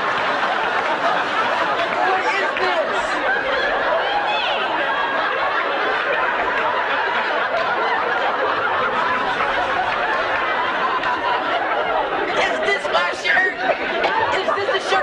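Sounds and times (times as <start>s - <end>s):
studio audience laughing: 0.0s - 15.0s.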